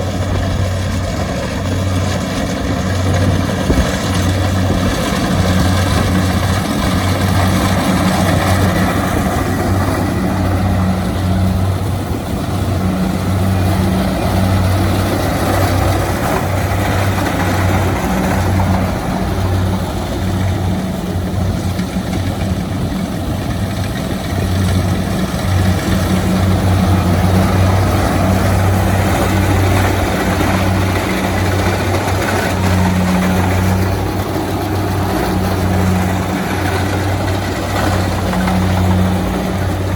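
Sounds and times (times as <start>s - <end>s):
combine harvester engine hum: 0.0s - 39.9s
harvesting machinery noise: 0.0s - 39.9s.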